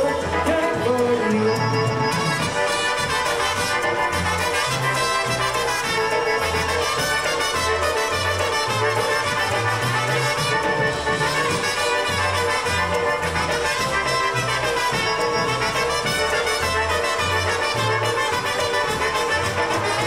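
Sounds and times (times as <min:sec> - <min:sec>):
oom-pah bass line: 0:00.0 - 0:20.0
polka band playing: 0:00.0 - 0:20.0.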